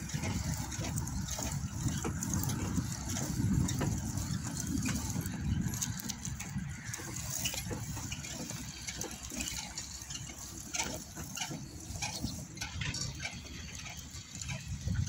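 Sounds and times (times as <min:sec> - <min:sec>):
footsteps on paved path: 0:00.0 - 0:15.0
wind rumbling on microphone: 0:00.0 - 0:15.0.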